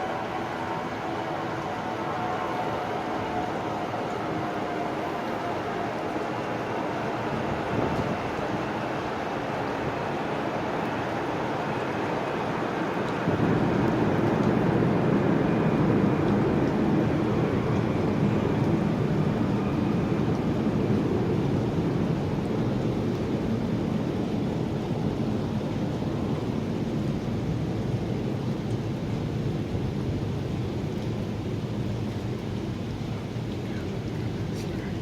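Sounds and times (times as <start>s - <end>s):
thunder rumbling: 0.0s - 35.0s.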